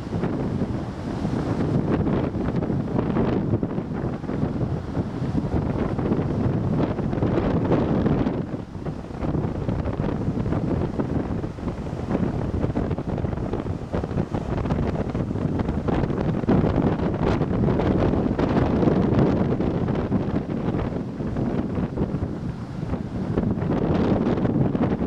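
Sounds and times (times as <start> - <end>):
storm surf breaking: 0.0 - 25.0
wind buffeting the microphone: 0.0 - 25.0.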